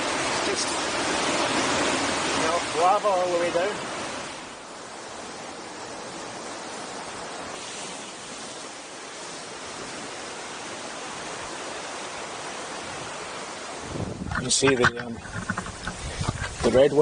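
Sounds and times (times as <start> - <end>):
sea surf washing against shore: 0.0 - 17.0.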